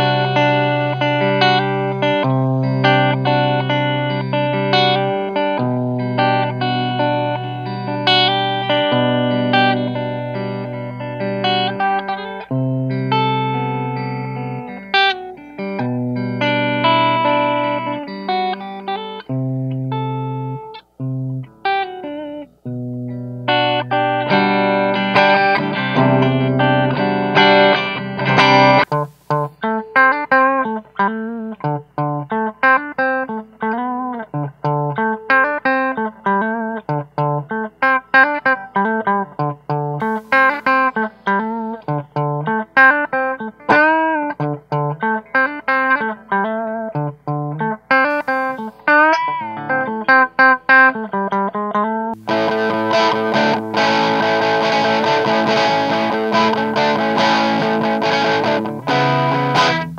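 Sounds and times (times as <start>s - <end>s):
clean electric guitar chords: 0.0s - 59.9s.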